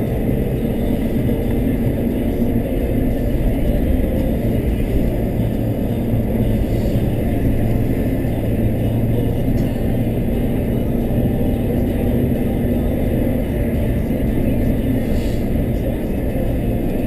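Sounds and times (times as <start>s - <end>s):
car driving rumble: 0.0s - 17.0s
faint low engine hum: 0.0s - 17.0s.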